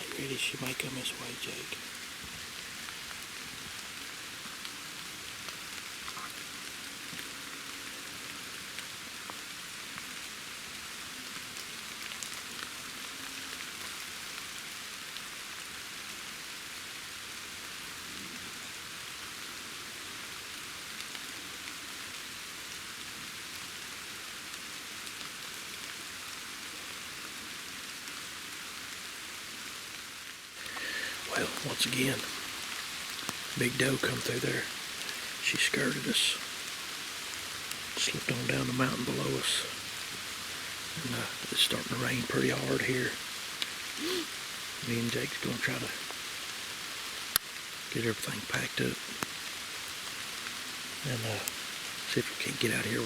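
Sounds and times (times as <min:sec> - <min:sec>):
rain pattering on leaves: 0:00.0 - 0:53.0.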